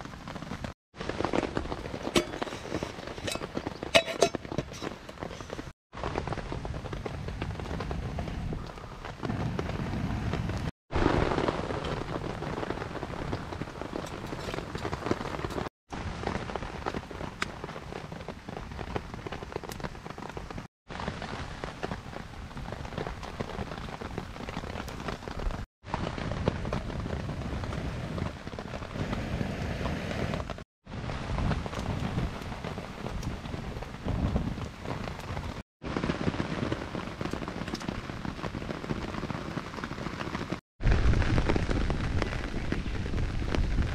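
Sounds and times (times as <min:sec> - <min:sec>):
rain pattering on a tarp: 0:00.0 - 0:43.9
wood fire crackling: 0:00.0 - 0:43.9.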